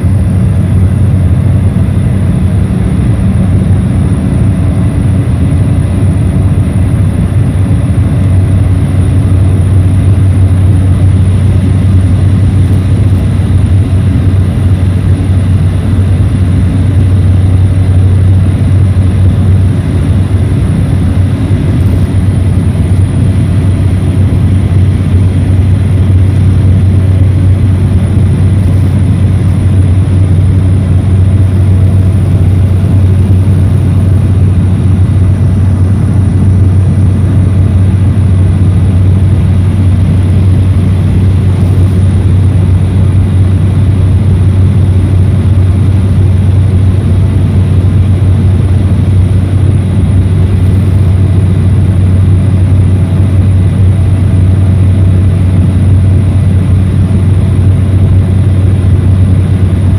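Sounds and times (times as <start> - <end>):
high whine: 0.0 - 59.9
propeller plane engine drone: 0.0 - 59.9.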